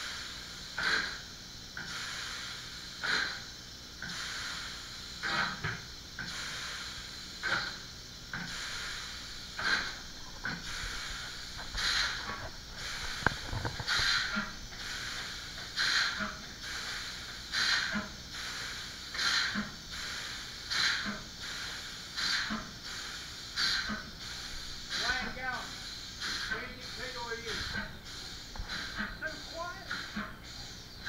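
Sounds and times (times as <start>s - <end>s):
short bursts of hissing: 0.0s - 31.0s.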